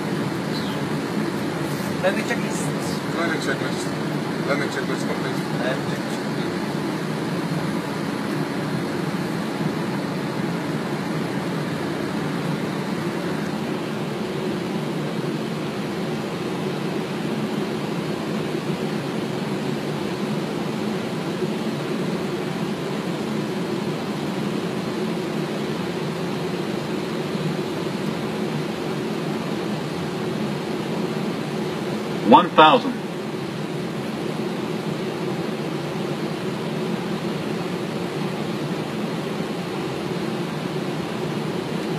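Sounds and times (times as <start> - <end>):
rush of air and air conditioning: 0.0 - 41.9.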